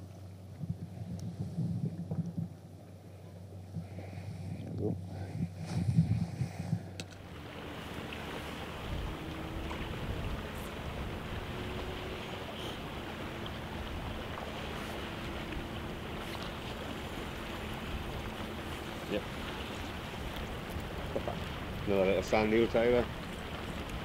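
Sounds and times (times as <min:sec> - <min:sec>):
sea wash: 0:00.0 - 0:24.0
wind: 0:00.0 - 0:24.0.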